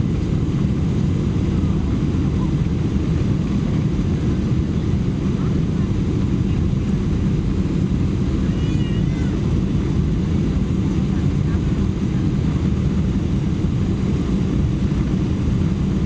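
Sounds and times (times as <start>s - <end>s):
airplane engines rumbling from cabin: 0.0s - 16.0s.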